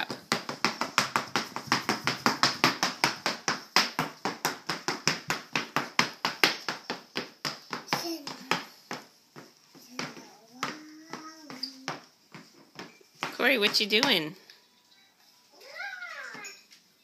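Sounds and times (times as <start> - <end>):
plastic high heels clacking on wood floor: 0.0 - 14.3.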